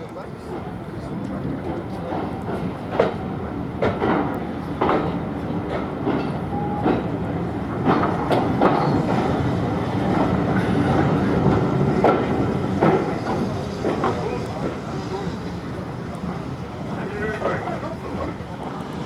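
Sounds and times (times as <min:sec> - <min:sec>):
train rumbling on track: 0:00.0 - 0:19.0.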